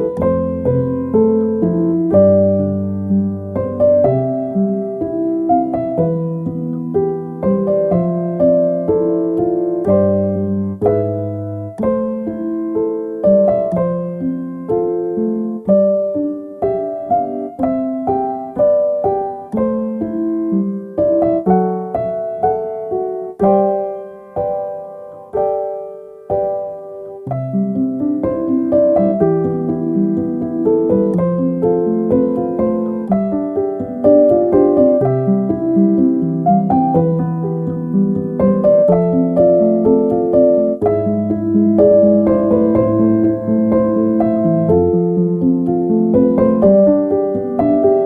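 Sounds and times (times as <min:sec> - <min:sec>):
soft slow piano music: 0:00.0 - 0:48.0.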